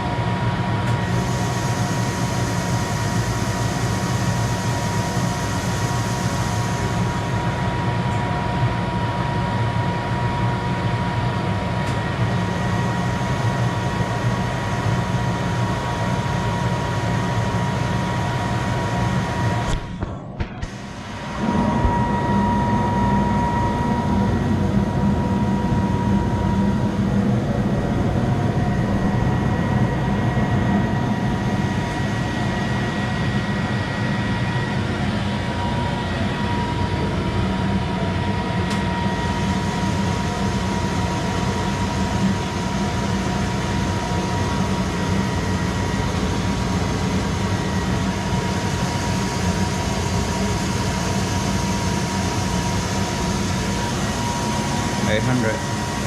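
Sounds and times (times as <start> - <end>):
lathe humming with thin whine: 0.0 - 19.7, 20.8 - 56.0.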